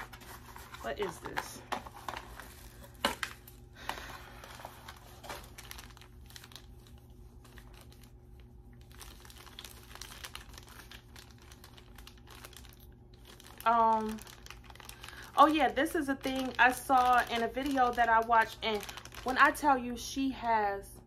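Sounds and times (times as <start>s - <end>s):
plastic packaging crinkling: 0.0s - 20.1s.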